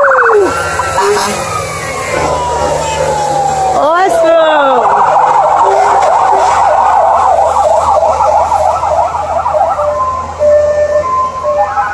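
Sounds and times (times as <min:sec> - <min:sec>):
fire truck siren yelping: 0:00.0 - 0:11.9.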